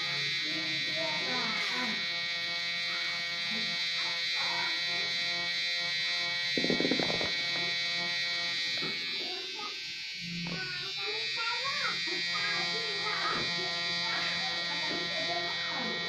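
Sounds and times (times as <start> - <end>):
tattoo machine buzzing: 0.0 - 16.0.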